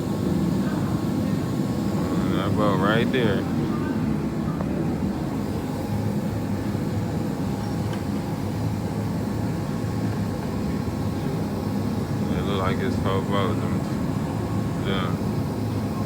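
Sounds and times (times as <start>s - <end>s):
faint constant hum: 0.0s - 16.0s
low mechanical rumble: 0.0s - 16.0s.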